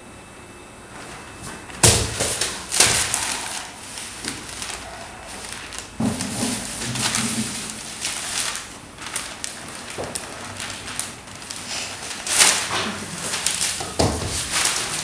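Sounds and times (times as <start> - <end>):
newspaper rustling and crackling: 0.9 - 15.0.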